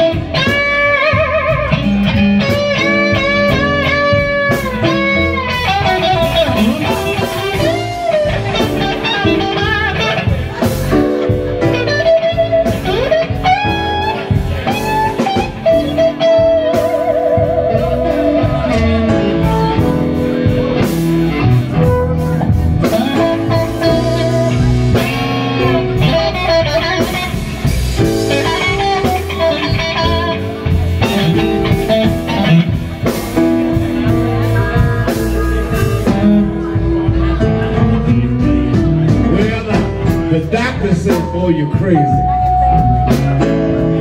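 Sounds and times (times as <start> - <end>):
bass and drums: 0.0 - 44.0
blues electric guitar lead: 0.0 - 44.0.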